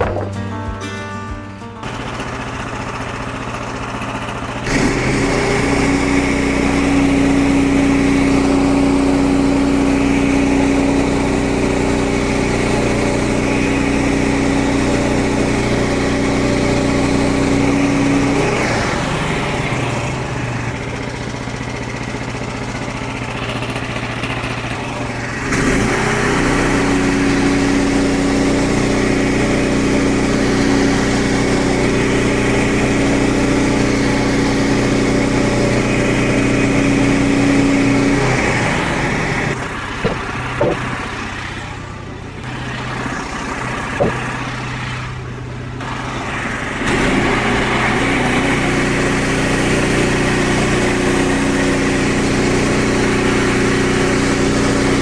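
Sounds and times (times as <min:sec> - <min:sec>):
sawmill gasoline engine running: 0:01.8 - 0:55.0.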